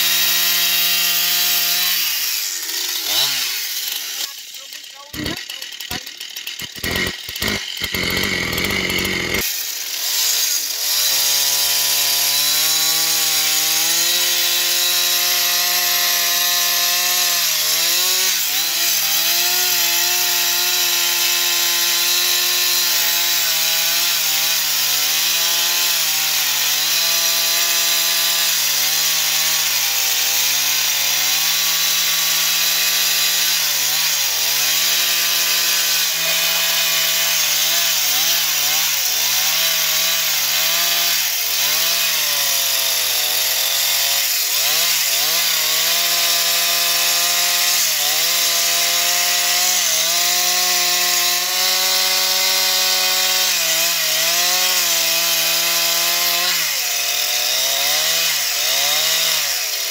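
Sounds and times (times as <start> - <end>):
chain cutting wood: 0.0 - 59.9
chainsaw running at full throttle: 0.0 - 59.9.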